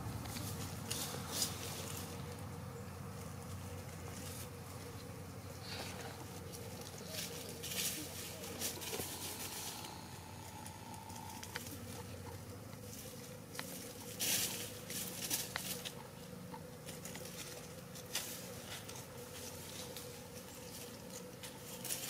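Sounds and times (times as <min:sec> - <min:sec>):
chickens scratching in dry leaves: 0:00.0 - 0:22.0
faint steady hum: 0:00.0 - 0:22.0.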